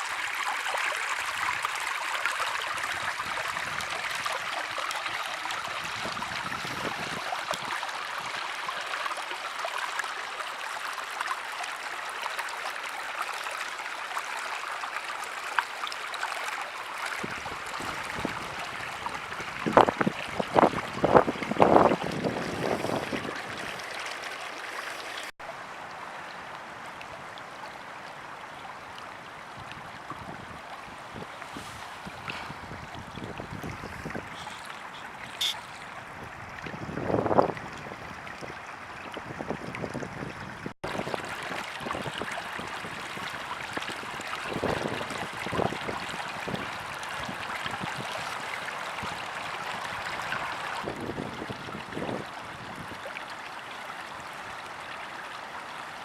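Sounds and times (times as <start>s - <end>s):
small water splashes: 0.0s - 56.0s
stream running: 0.0s - 56.0s.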